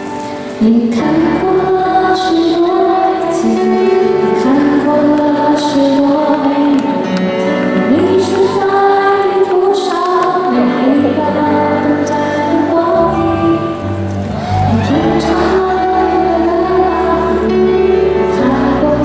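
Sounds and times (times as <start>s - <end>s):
woman singing into microphone: 0.0s - 19.0s.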